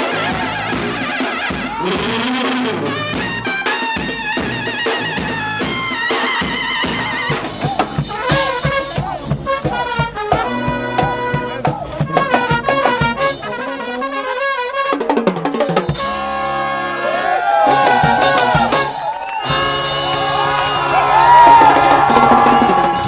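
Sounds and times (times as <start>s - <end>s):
steady drum beat: 0.0s - 16.8s, 17.5s - 23.0s
brass horns playing: 0.0s - 23.0s.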